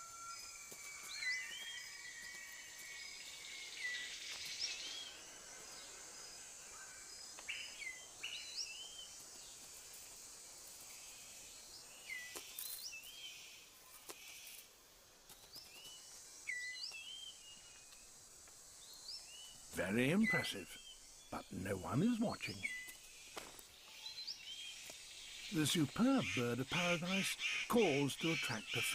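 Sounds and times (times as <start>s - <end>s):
high insect hum: 0.0s - 28.9s.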